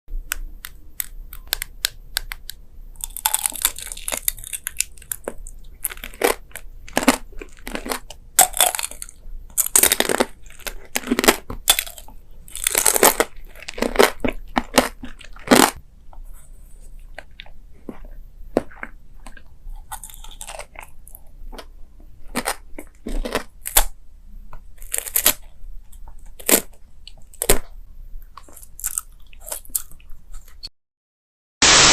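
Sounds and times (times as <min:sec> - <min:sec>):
crunchy bites and chewing: 0:03.0 - 0:15.8, 0:16.4 - 0:24.0, 0:24.6 - 0:30.7.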